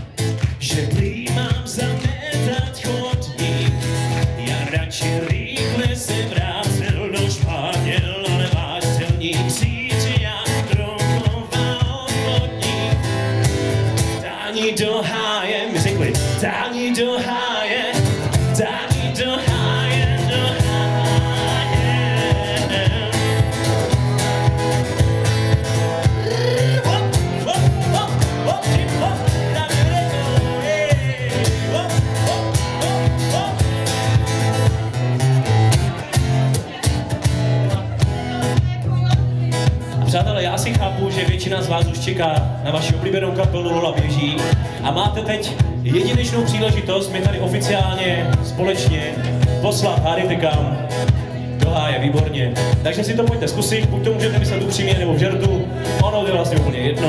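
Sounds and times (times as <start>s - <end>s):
man singing: 0.0s - 37.0s, 37.7s - 57.0s
acoustic guitar strumming: 0.0s - 57.0s.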